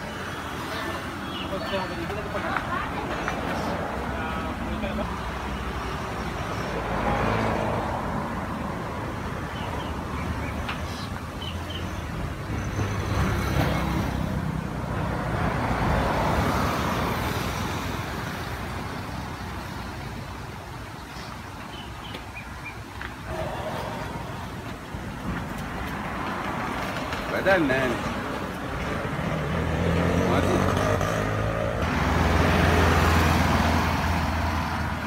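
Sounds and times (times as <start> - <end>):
steady traffic rumble: 0.0 - 35.0
vehicles passing: 0.0 - 35.0.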